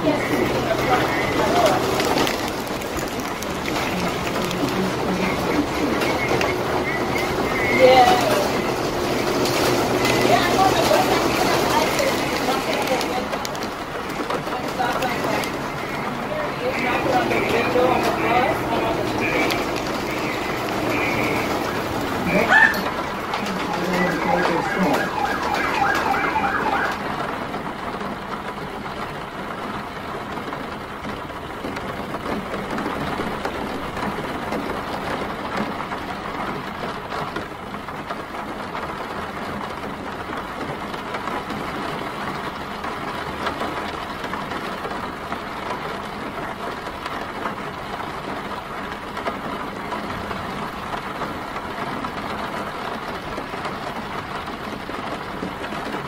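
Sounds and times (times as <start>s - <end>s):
city traffic: 0.0s - 56.0s
steady rain: 0.0s - 56.0s.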